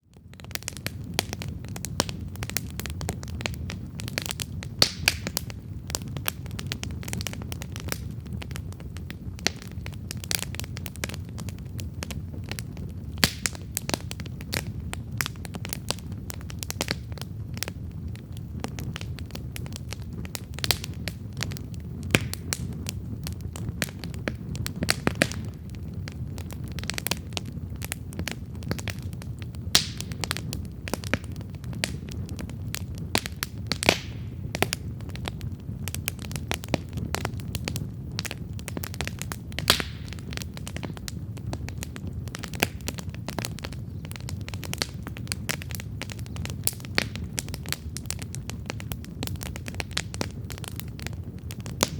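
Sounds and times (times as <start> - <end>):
low rumble of flames: 0.0 - 51.9
campfire crackling: 0.1 - 51.9
fire snapping: 0.2 - 51.9.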